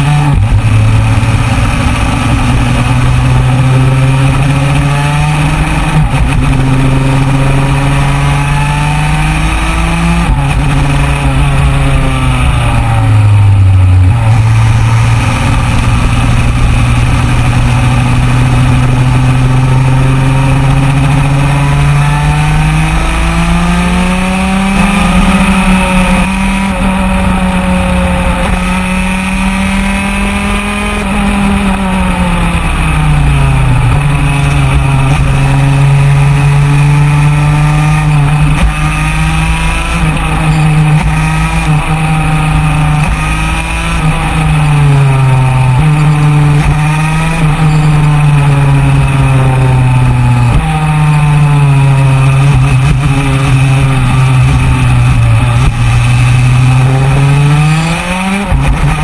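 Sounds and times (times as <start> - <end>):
two-stroke kart engine revving: 0.0 - 59.0.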